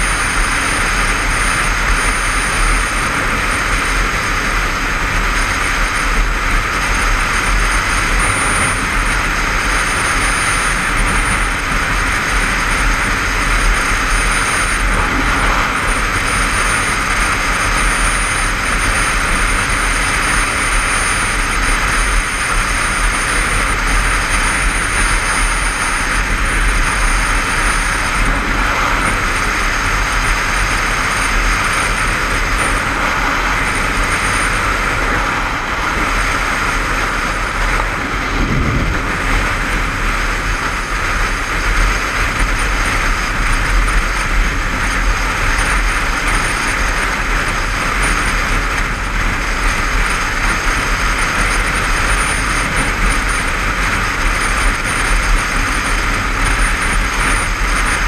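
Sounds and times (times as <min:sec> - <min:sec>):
motorcycle engine: 0:00.0 - 0:58.0
wind rush on microphone: 0:00.0 - 0:58.0.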